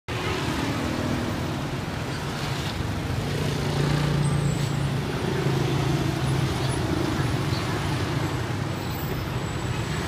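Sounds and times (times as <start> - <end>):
street hum: 0.1 - 10.0.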